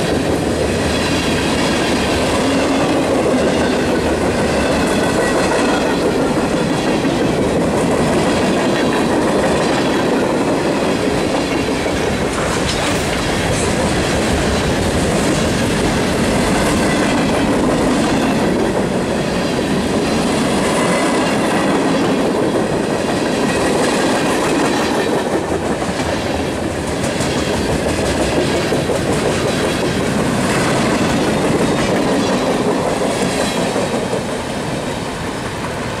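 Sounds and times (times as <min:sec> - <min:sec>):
freight train cars rolling past: 0:00.0 - 0:36.0
steel wheels clattering over rail joints: 0:00.0 - 0:36.0.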